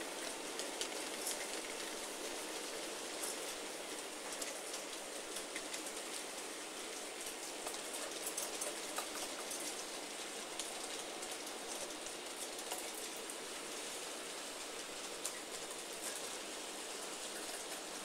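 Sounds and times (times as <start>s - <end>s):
model train wheels rolling on rails: 0.0s - 18.0s.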